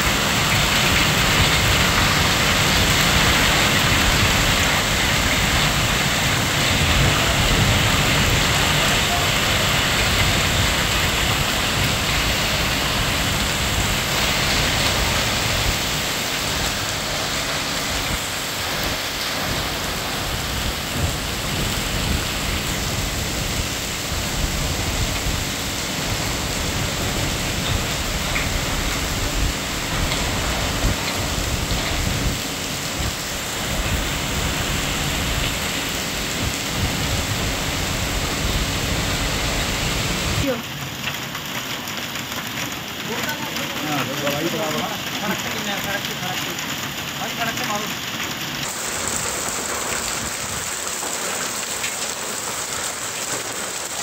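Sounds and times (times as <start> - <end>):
hail and heavy rain on road: 0.0 - 54.0.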